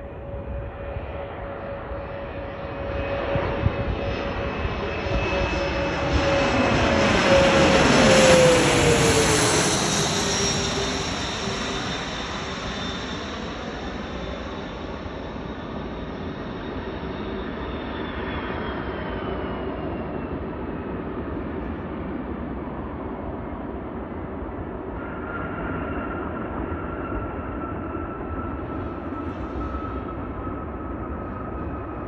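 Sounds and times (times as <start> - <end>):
jet passing with whine: 0.0 - 21.5, 24.5 - 32.0.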